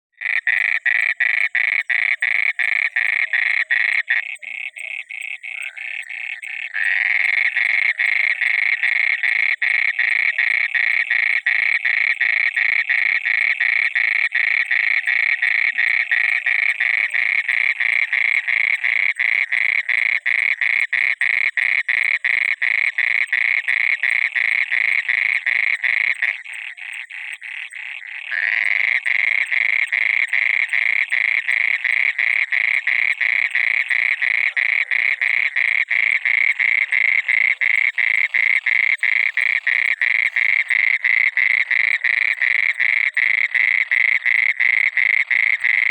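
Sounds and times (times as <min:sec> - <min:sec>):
frog croaking: 0:00.2 - 0:45.9.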